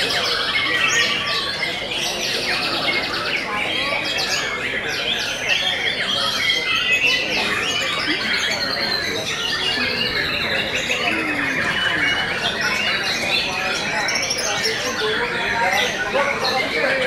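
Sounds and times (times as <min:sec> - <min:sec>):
birds singing whistled trills: 0:00.0 - 0:17.0
voices murmuring: 0:00.0 - 0:17.0.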